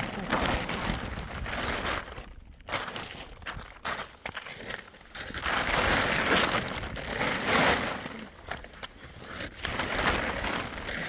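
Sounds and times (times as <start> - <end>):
plastic sheeting rustling: 0.0 - 11.0.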